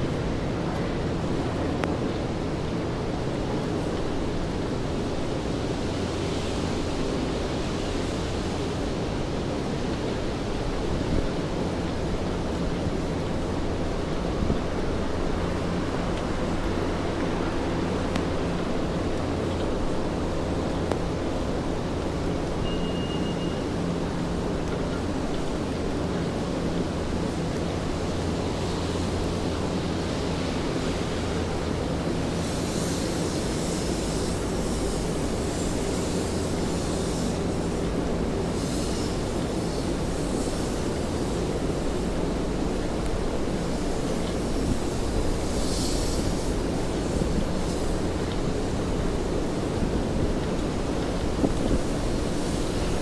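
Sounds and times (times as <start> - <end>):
city traffic rumble: 0.0 - 53.0
steady rain: 0.0 - 53.0
vehicles swishing on wet road: 0.0 - 53.0.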